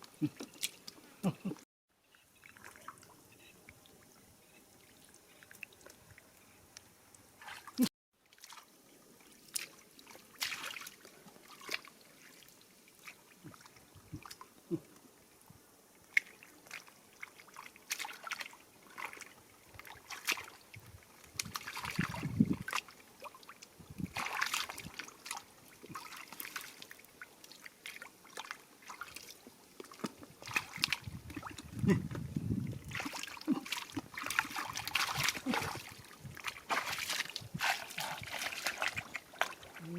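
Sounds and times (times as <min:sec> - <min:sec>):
water sloshing and trickling: 0:00.0 - 0:01.4, 0:02.1 - 0:39.9.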